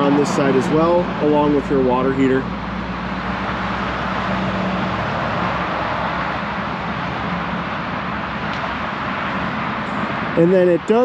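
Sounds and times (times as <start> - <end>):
road traffic rushing: 0.0 - 11.0.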